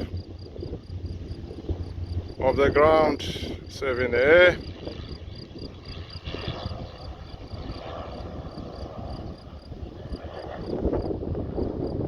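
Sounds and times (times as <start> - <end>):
insects chirping: 0.0 - 12.0
light aircraft engine drone: 0.0 - 12.0
wind buffeting microphone: 0.0 - 12.0.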